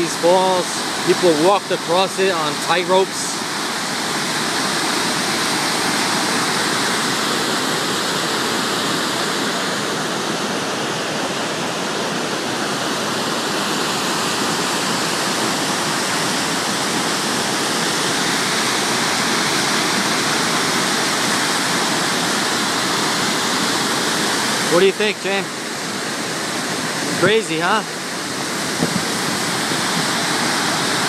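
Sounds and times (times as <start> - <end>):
waterfall rushing into rocky gorge: 0.0 - 31.0.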